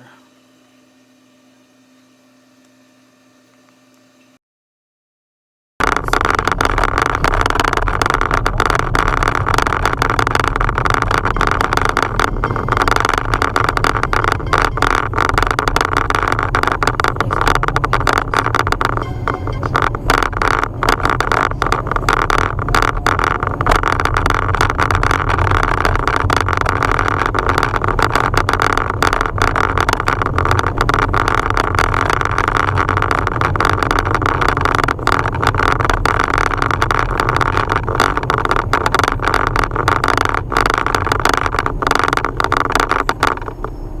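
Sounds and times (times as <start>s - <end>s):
loose part rattling: 5.8s - 43.8s
car rumble: 5.8s - 44.0s.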